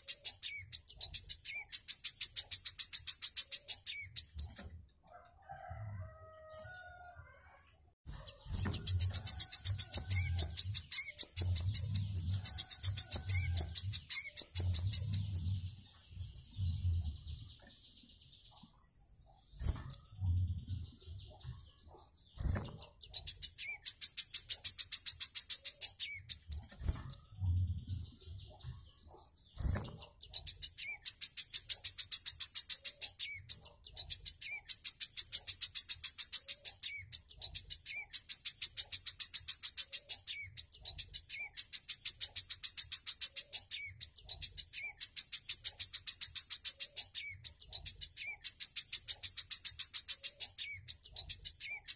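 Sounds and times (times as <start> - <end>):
bird buzzy trilling song: 0.0 - 4.8, 8.1 - 18.5, 19.5 - 51.9.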